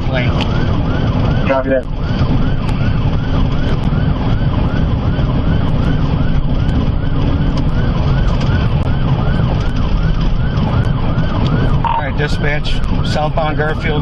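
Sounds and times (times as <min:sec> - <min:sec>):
police siren yelping: 0:00.0 - 0:14.0
road and engine rumble: 0:00.0 - 0:14.0.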